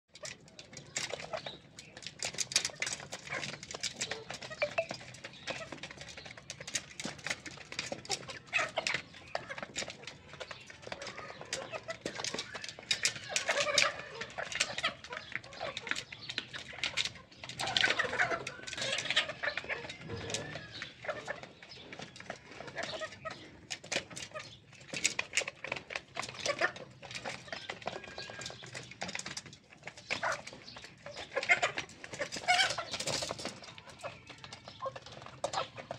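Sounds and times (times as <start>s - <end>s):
chickens clucking and calling: 0.1s - 35.9s.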